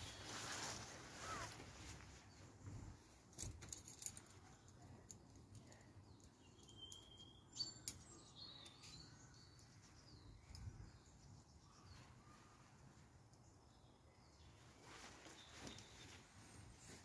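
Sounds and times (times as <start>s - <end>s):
woodland birds chirping: 0.0s - 3.2s, 4.0s - 17.0s.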